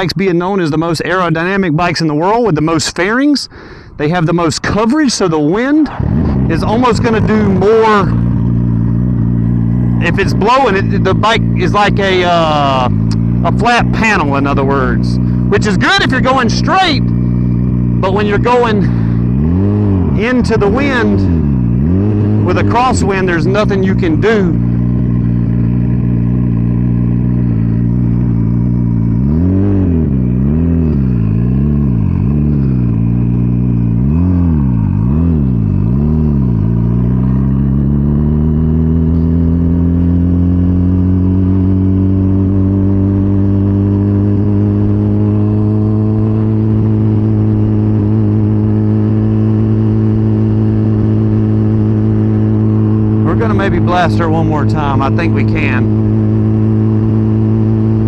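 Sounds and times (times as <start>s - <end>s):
motorcycle engine revving: 4.2s - 58.0s.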